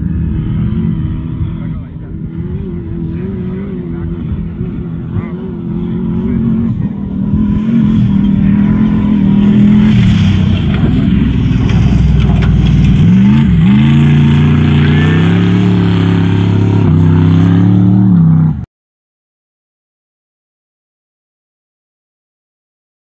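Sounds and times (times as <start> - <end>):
race vehicle engine revving: 0.0 - 18.7.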